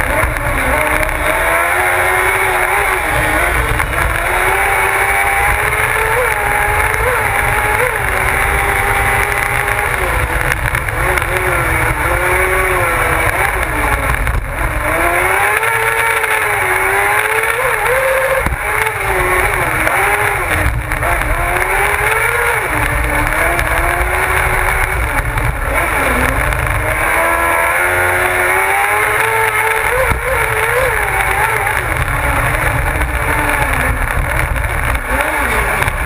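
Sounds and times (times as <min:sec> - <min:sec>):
low rumble of wind: 0:00.0 - 0:36.0
motorcycle engine revving: 0:00.0 - 0:36.0.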